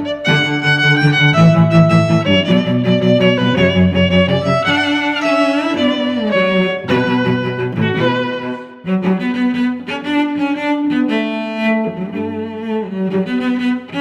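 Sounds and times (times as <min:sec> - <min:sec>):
cello and violin music: 0:00.0 - 0:14.0.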